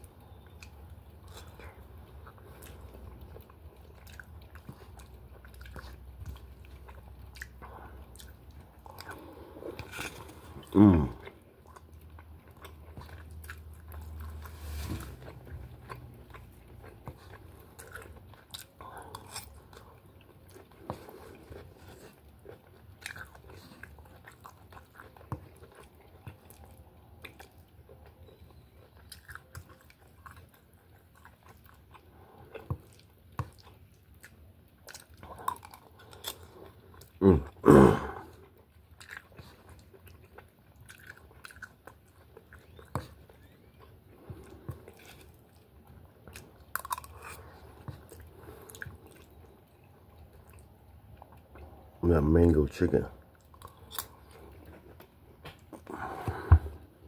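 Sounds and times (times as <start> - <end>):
man chewing food: 0.0 - 57.0.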